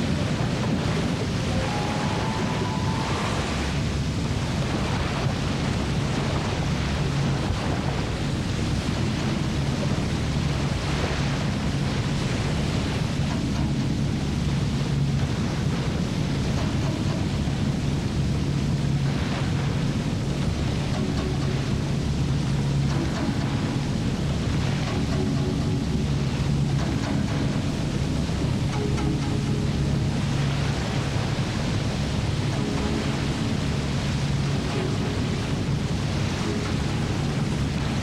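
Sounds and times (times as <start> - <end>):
low hum: 0.0 - 38.0
roar of whitewater rapid: 0.0 - 38.0.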